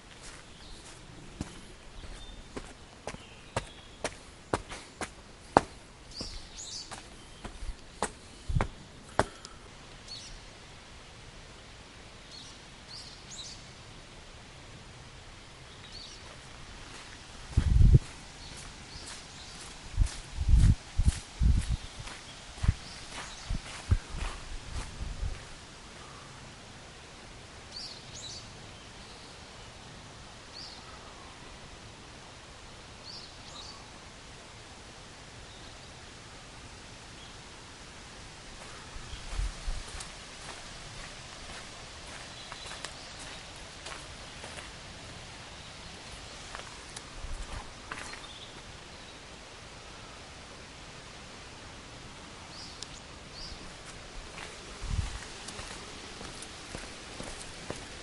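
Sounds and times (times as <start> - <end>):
outdoor hiss: 0.0 - 58.0.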